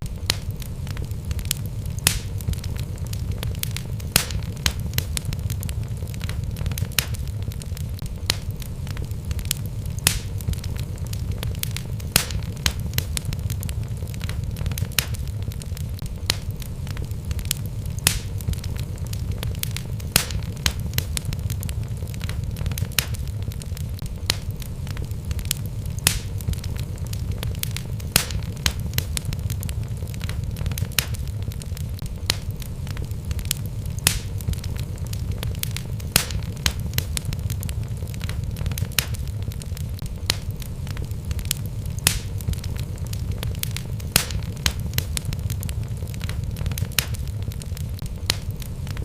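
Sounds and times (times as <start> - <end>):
burning logs crackling and popping: 0.0 - 49.0
fire flames rumbling: 0.0 - 49.0.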